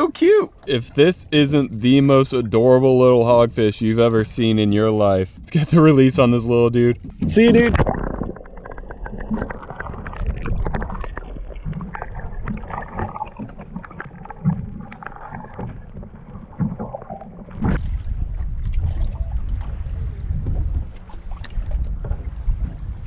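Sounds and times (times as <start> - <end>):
rush of water: 0.0 - 23.0
muffled underwater rumble: 0.6 - 23.0
underwater clicks and crackles: 3.6 - 22.9.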